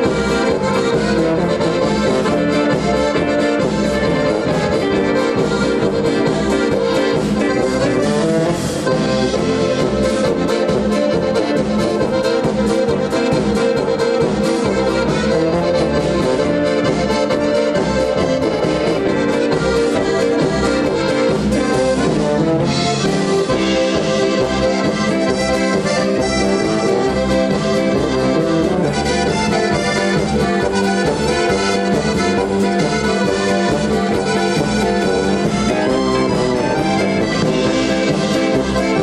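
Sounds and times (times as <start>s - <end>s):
button accordion playing: 0.0s - 39.0s
piano accordion: 0.0s - 39.0s
steady bass beat: 0.0s - 39.0s.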